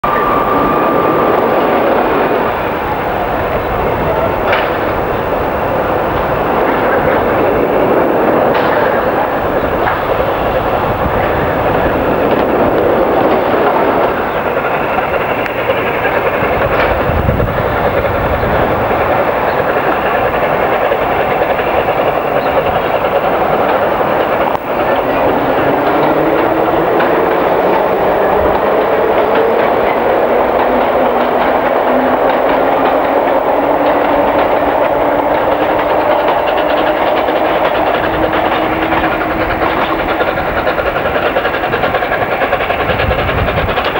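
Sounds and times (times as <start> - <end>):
steam locomotive approaching: 0.0 - 43.9.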